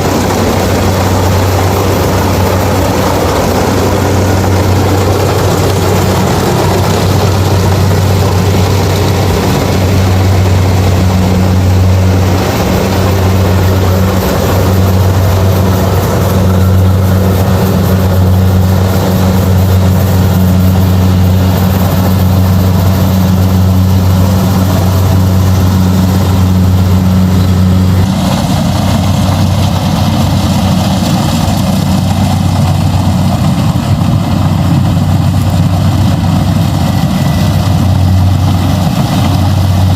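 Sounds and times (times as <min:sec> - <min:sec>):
diesel engine humming: 0:00.0 - 0:39.9
mechanical rushing noise: 0:00.0 - 0:39.9
steady high whine: 0:00.0 - 0:39.9.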